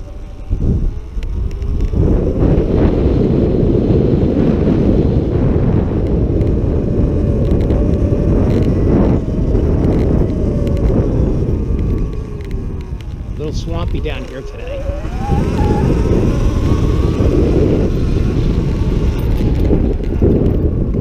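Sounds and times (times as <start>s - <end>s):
electric motor whine: 0.0s - 21.0s
wind buffeting microphone: 0.0s - 21.0s.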